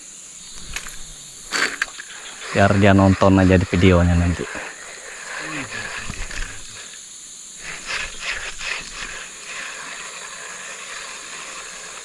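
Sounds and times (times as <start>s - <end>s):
insects droning: 0.0s - 12.0s
scratchy noises: 0.5s - 7.0s, 7.6s - 12.0s.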